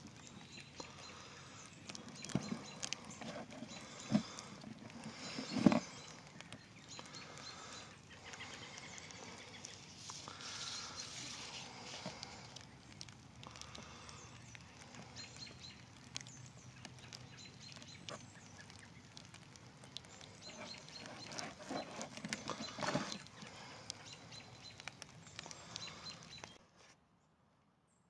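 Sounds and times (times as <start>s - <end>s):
small birds chirping: 0.0s - 26.6s.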